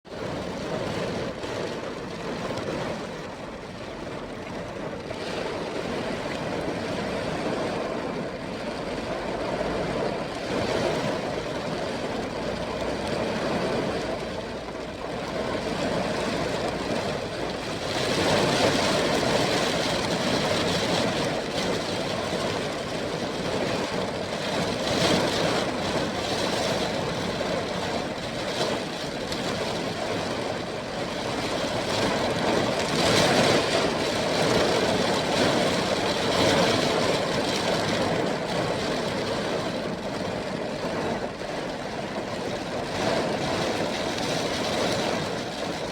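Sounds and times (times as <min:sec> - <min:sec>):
heavy rain: 0:00.1 - 0:45.9.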